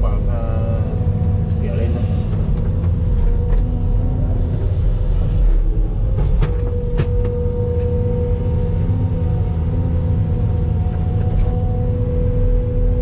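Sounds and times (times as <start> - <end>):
excavator engine and hydraulics: 0.0 - 13.0
steady whine: 0.0 - 13.0.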